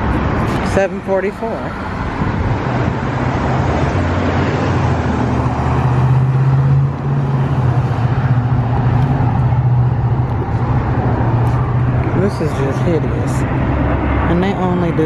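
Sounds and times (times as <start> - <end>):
bus engine humming: 0.0 - 15.0
street traffic noise: 0.0 - 15.0.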